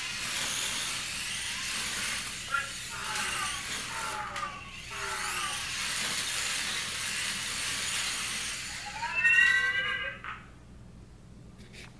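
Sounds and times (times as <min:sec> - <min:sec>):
electric wheel motors whirring: 0:00.0 - 0:10.3.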